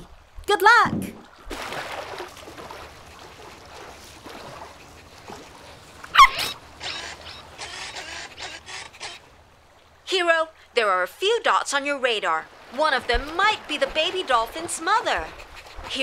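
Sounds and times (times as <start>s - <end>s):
water wash: 1.1s - 9.7s, 11.5s - 16.0s.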